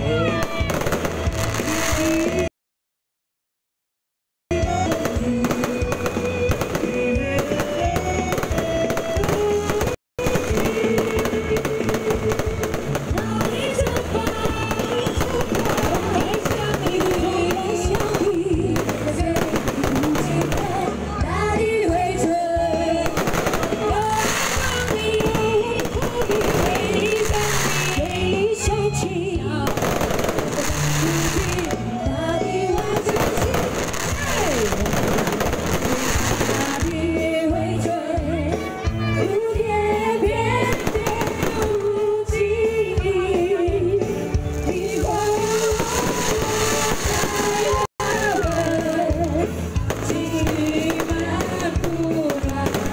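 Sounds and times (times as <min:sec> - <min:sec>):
fireworks crackling bangs: 0:00.2 - 0:02.5, 0:04.8 - 0:28.8, 0:29.4 - 0:32.0, 0:32.7 - 0:37.2, 0:40.3 - 0:42.4, 0:44.6 - 0:52.9
music with melody and bass: 0:04.5 - 0:52.9.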